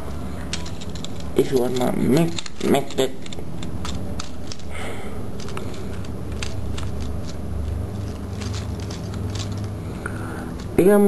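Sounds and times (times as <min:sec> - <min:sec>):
steady low rumble: 0:00.0 - 0:11.0
plastic toy clicks and rattles: 0:00.4 - 0:09.8.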